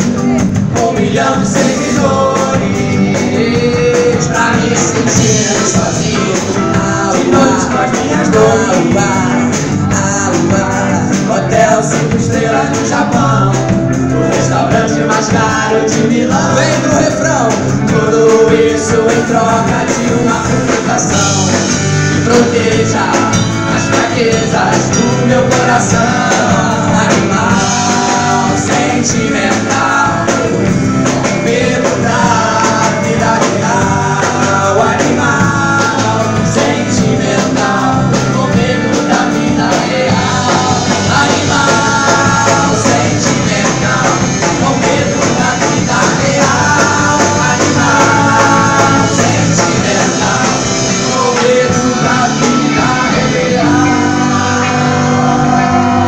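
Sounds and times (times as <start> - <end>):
electric guitar: 0.0 - 56.0
men singing together: 0.0 - 56.0
percussion: 0.0 - 56.0.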